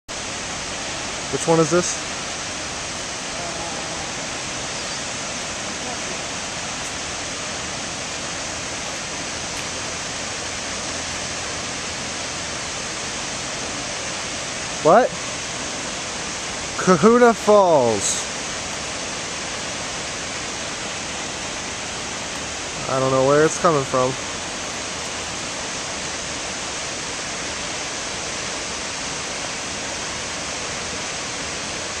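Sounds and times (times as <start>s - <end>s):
waterfall rushing: 0.1s - 32.0s.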